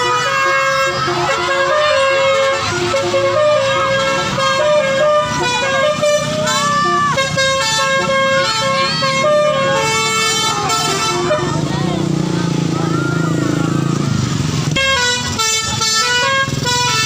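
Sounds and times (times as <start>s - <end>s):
musical vehicle horn melody: 0.0s - 12.3s, 14.6s - 17.0s.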